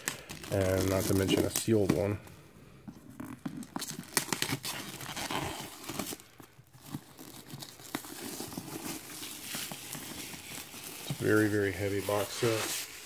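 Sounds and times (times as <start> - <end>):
plastic wrap crinkling: 0.0 - 2.3, 3.0 - 13.0.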